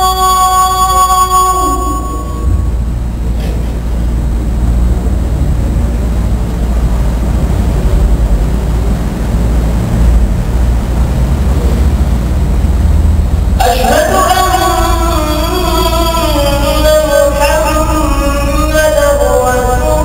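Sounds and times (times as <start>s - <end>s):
fan air buffeting microphone: 0.0s - 20.0s.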